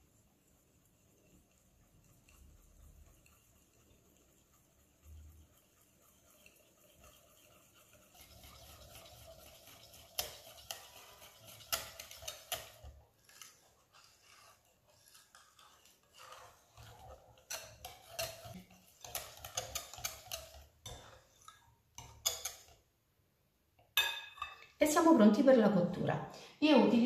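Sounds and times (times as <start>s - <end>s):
whisk swishing batter: 0.0s - 23.0s.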